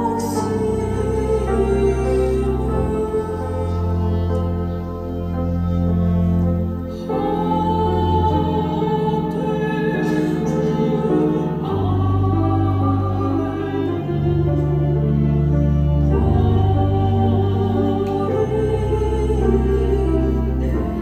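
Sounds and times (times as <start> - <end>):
organ sustained chords: 0.0 - 21.0
piano accompaniment: 0.0 - 21.0
soprano singing a hymn: 0.0 - 21.0.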